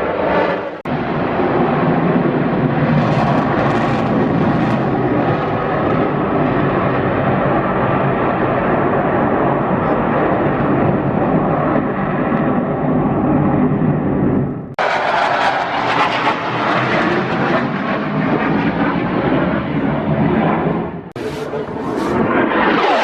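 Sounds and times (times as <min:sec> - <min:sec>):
aircraft engine noise: 0:00.0 - 0:23.0.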